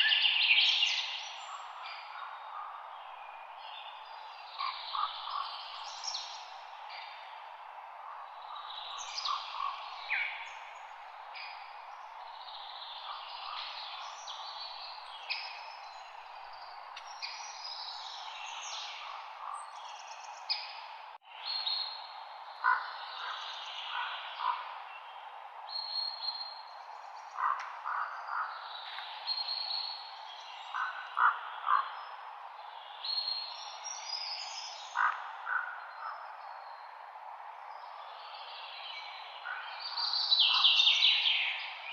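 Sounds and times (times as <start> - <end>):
songbirds chirping and trilling: 0.0 - 41.9
wind in forest leaves: 0.0 - 41.9.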